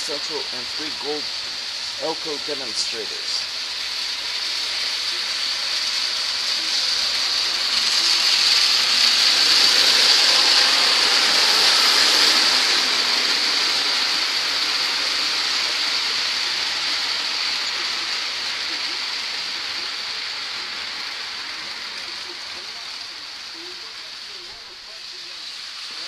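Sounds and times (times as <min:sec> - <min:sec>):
model trains on metal track: 0:00.0 - 0:26.0.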